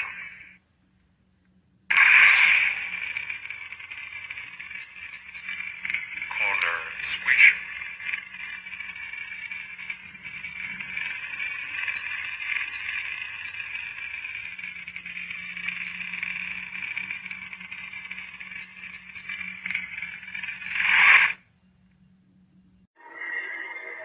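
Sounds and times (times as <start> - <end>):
toy lightsaber electronic hum: 0.0 - 0.6, 1.9 - 21.8.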